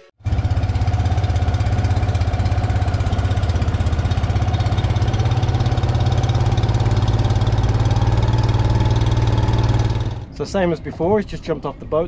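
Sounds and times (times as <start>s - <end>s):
outboard motor running: 0.2s - 10.3s.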